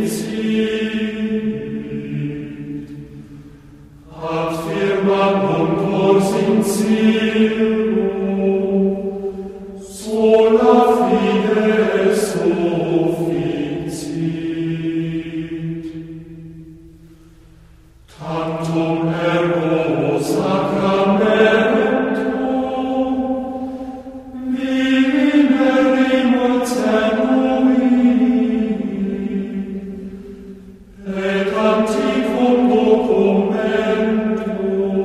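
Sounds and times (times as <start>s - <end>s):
choir chanting: 0.0s - 16.8s, 18.1s - 35.0s.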